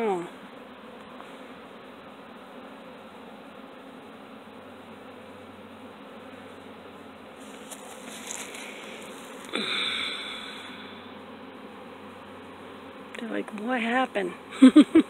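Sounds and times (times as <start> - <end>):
honeybee swarm buzzing: 0.0 - 15.0
loud close bee buzz: 0.0 - 15.0.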